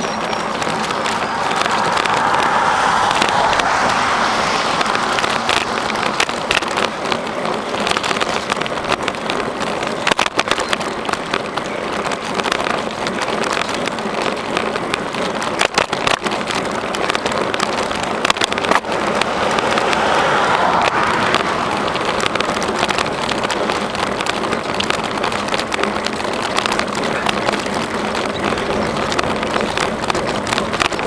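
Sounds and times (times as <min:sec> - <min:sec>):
bicycle rattling clicks and knocks: 0:00.0 - 0:31.0
wind and tyre noise: 0:00.0 - 0:31.0.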